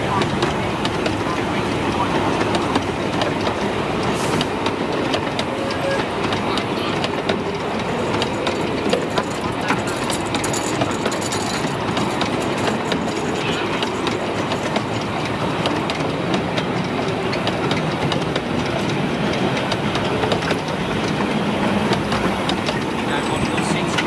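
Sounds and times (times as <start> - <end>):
miniature train clickety-clack on rails: 0.0 - 24.0.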